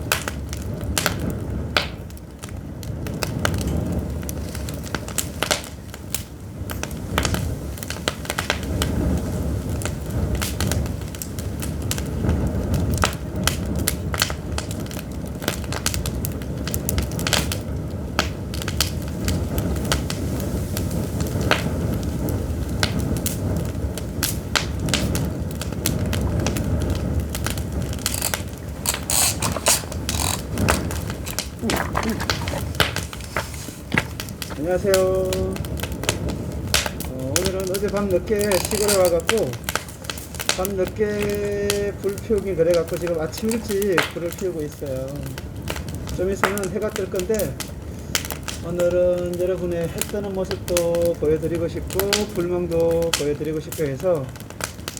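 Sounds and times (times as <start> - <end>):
firewood crackling and popping: 0.0 - 54.9.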